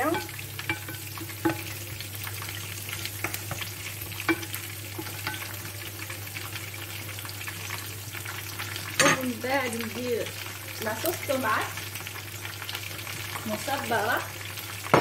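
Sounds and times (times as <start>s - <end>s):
onions sizzling: 0.0s - 15.0s.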